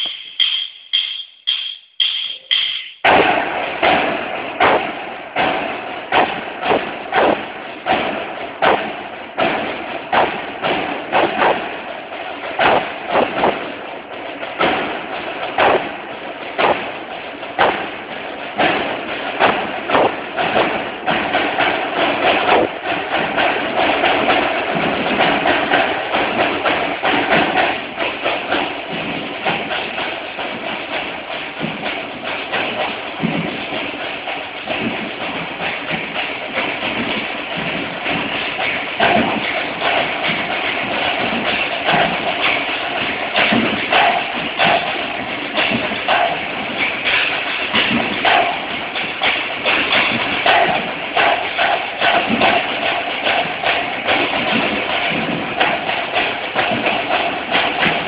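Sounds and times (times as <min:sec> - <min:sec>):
snare drumming: 0:00.0 - 0:58.0.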